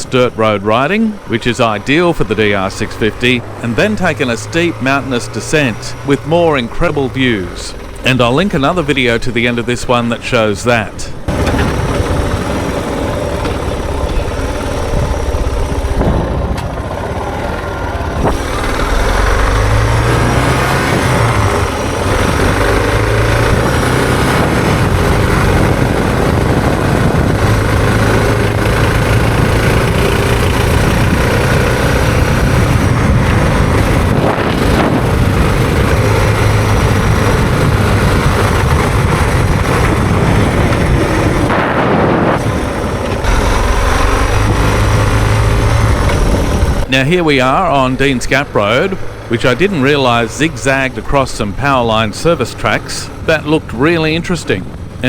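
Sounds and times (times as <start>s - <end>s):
single-cylinder motorcycle engine: 0.0s - 55.0s
wind and road noise: 0.0s - 55.0s.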